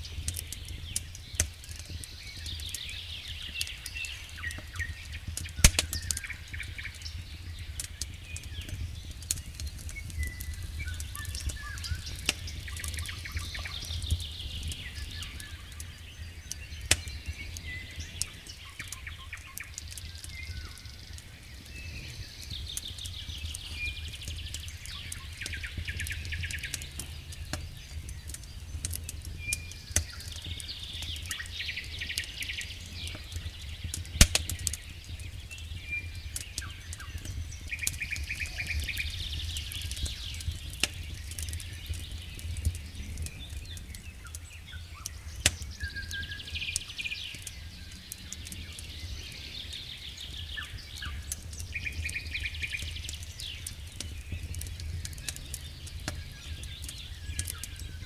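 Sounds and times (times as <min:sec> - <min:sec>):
birds chirping and trilling: 0:00.0 - 0:58.0
campfire crackling and popping: 0:00.0 - 0:58.0.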